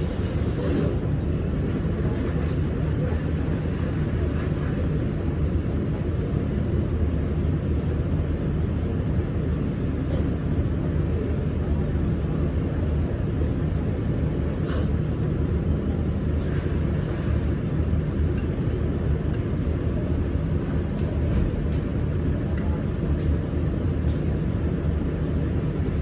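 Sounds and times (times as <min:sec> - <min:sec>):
fan or ventilation rumble: 0:00.0 - 0:26.0.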